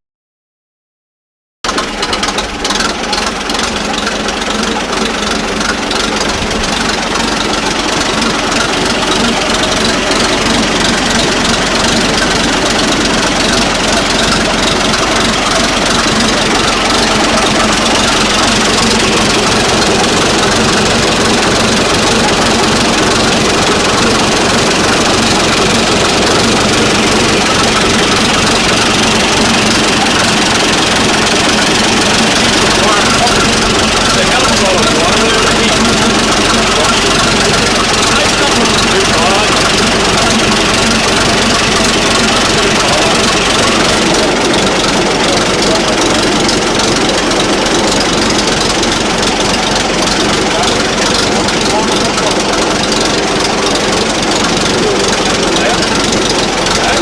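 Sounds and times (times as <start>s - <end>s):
tractor engine running: 1.6s - 57.0s.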